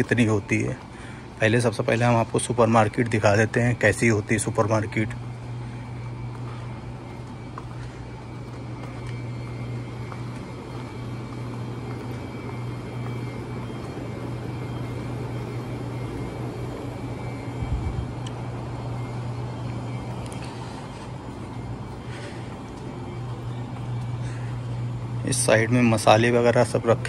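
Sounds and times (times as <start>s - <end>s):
air-conditioning hum and hiss: 0.0s - 27.0s.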